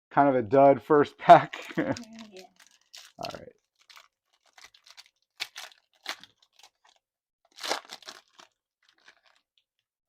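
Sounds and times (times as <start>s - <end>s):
foil wrapper tearing and crinkling: 1.4s - 9.8s.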